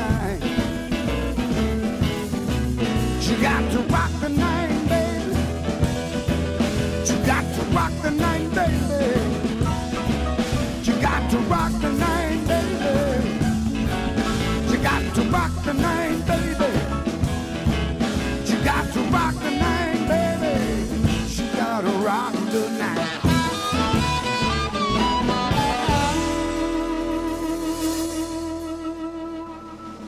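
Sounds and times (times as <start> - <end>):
blues band playing: 0.0 - 30.0.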